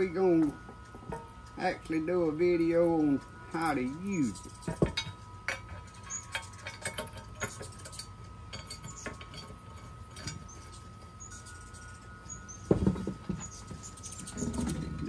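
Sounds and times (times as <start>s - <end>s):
faint high ringing tone: 0.0s - 15.0s
metal parts clinking: 0.0s - 15.0s.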